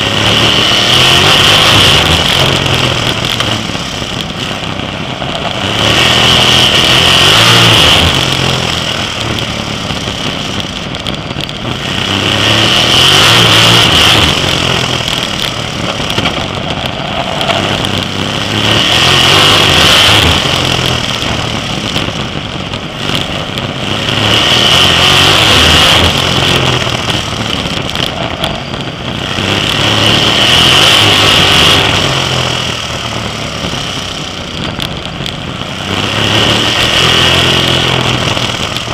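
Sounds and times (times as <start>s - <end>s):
race car engine running hard: 0.0s - 38.9s.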